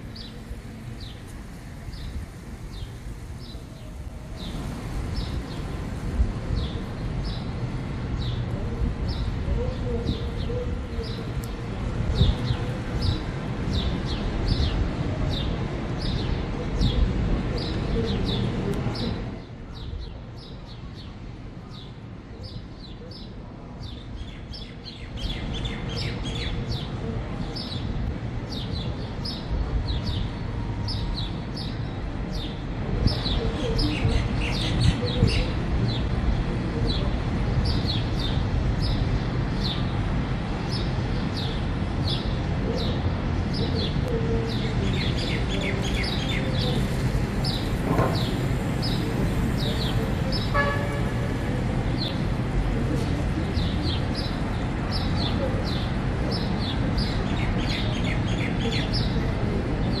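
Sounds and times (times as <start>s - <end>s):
low rumble of city noise: 0.0s - 60.0s.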